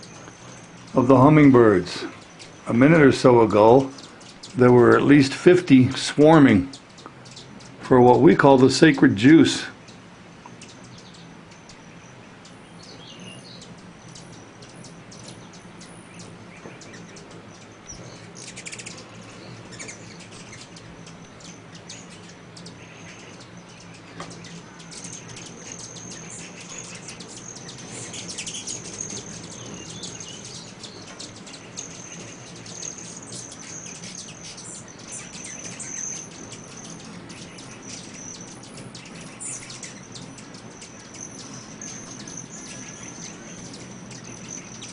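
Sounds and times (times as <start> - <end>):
hummingbird wings humming: 0.0 - 44.9
hummingbirds chipping and twittering: 0.0 - 44.9.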